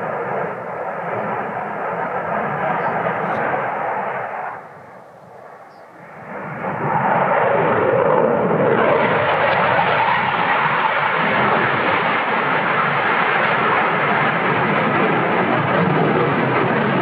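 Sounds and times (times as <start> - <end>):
fighter jet engine roar: 0.0 - 17.0.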